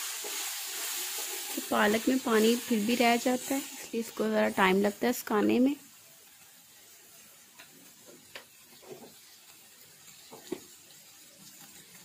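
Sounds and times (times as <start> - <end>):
low hiss of cooking: 0.0 - 12.0.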